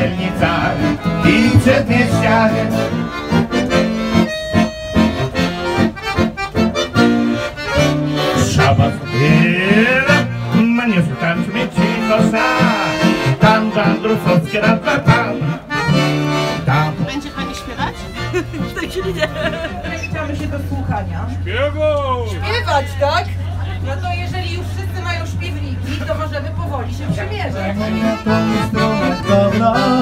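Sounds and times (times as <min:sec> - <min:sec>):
accordion playing folk tune: 0:00.0 - 0:21.4, 0:22.3 - 0:30.0.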